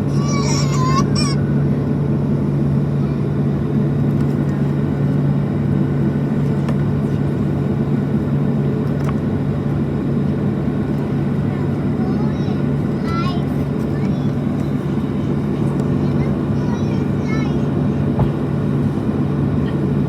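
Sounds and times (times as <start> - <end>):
aircraft cabin hum and rumble: 0.0 - 20.0.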